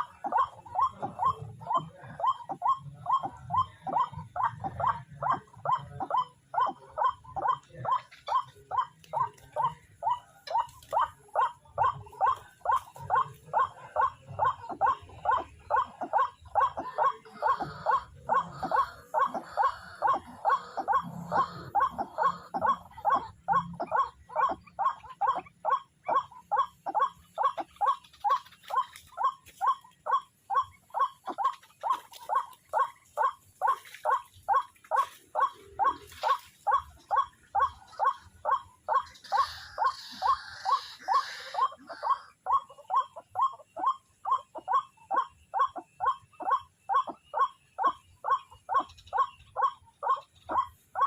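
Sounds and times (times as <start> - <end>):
waterhen harsh nasal calls: 0.0 - 51.0.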